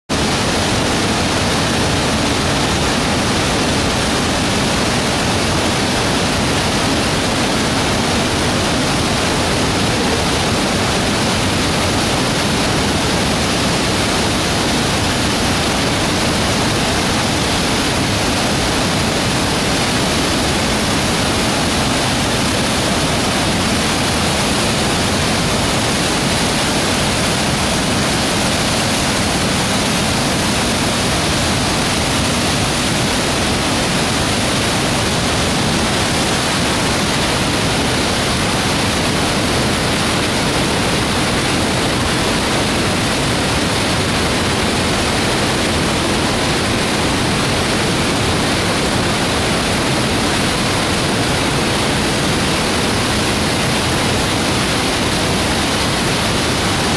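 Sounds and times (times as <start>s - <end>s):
river rushing over rapids: 0.1s - 56.9s.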